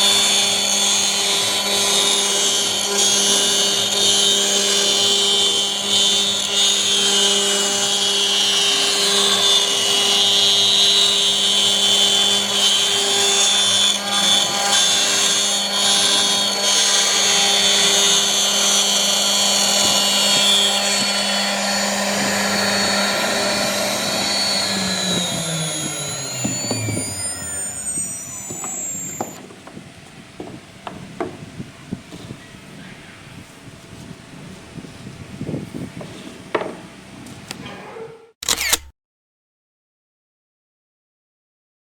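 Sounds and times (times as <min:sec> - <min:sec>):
router spindle whine: 0:00.0 - 0:36.9, 0:38.4 - 0:38.8
wood cutting noise: 0:00.0 - 0:37.7, 0:38.4 - 0:38.9.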